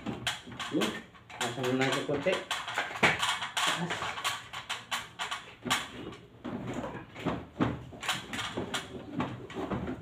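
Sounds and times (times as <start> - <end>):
plastic clicks and knocks: 0.0 - 10.0.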